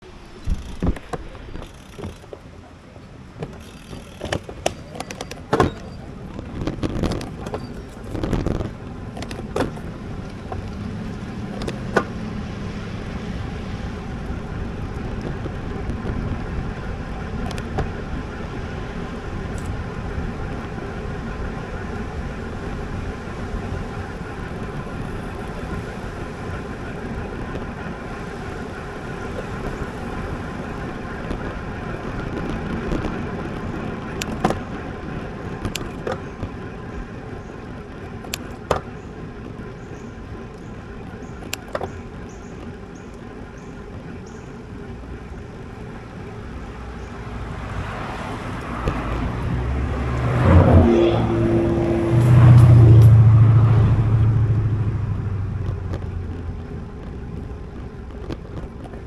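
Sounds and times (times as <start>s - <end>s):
bike tyres and wind noise: 0.0s - 59.0s.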